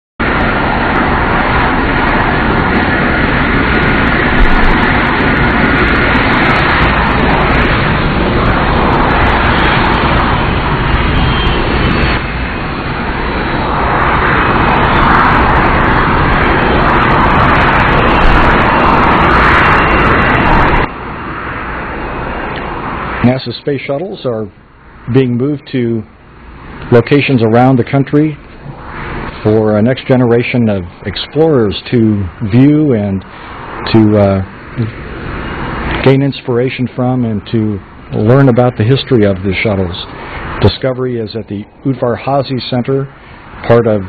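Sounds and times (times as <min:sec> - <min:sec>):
jet engine roar: 0:00.2 - 0:44.0.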